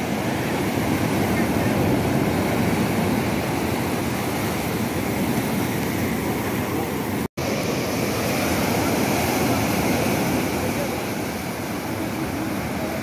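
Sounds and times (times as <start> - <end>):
sea surf breaking: 0.0 - 13.0.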